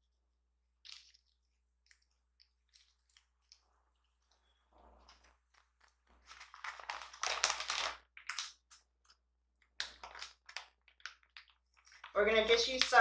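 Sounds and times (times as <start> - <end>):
plastic packaging rustling: 0.8 - 13.0.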